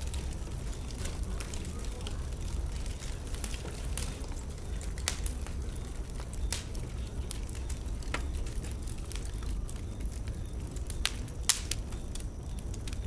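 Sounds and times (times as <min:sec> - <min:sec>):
bonfire wood popping: 0:00.0 - 0:13.0.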